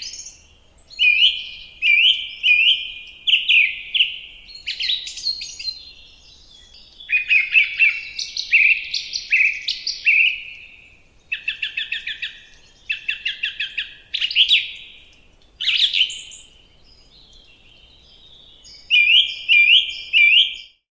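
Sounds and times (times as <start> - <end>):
songbird chirping and trilling: 0.0 - 20.9.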